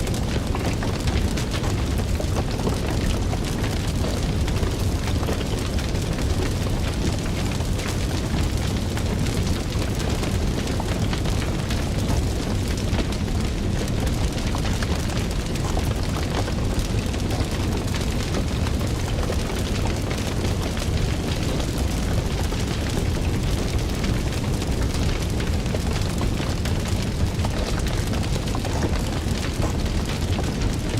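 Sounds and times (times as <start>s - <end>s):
fire pops and snaps: 0.0s - 30.9s
low rumble of flames: 0.0s - 30.9s.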